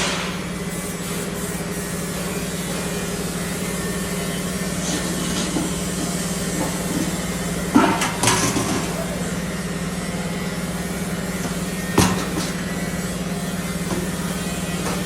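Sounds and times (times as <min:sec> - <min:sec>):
grinding machine humming: 0:00.0 - 0:15.0.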